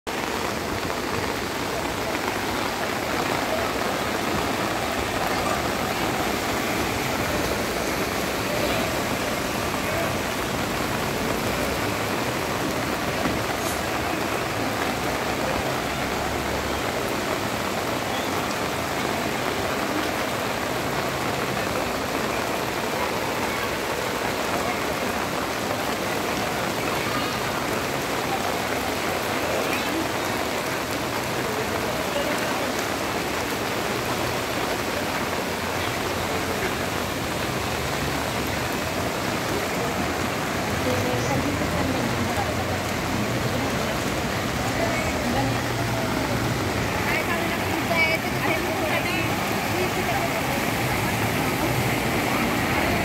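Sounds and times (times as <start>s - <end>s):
rain falling on surfaces: 0.0s - 53.0s.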